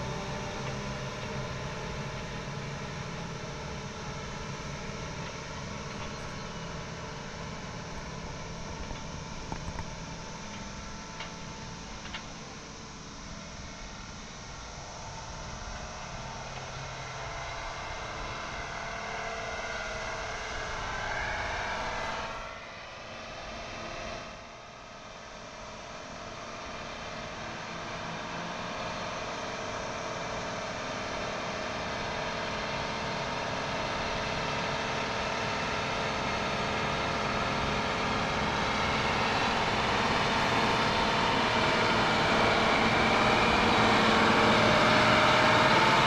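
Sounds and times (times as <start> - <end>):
road and mechanical hiss: 0.0 - 46.0
vehicle engine droning: 0.0 - 46.0.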